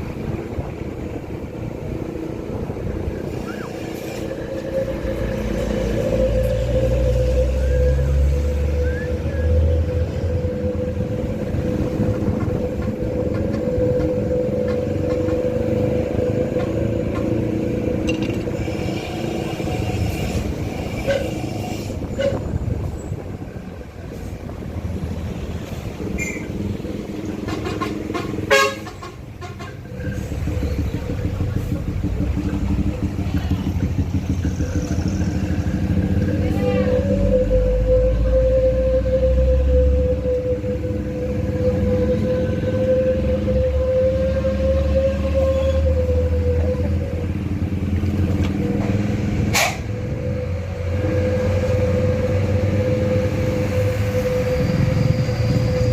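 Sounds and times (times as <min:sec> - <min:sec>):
vehicle engine whining: 0:00.0 - 0:55.9.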